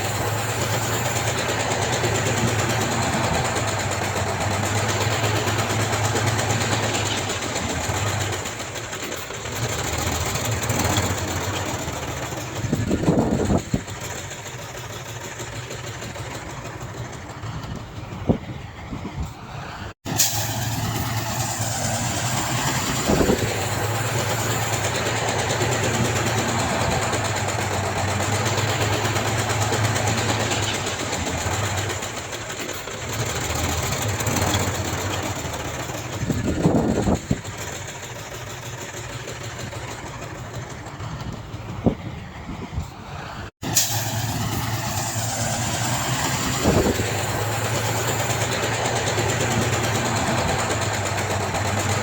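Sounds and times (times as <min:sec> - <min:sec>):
heavy machinery engine running: 0:00.0 - 0:52.0.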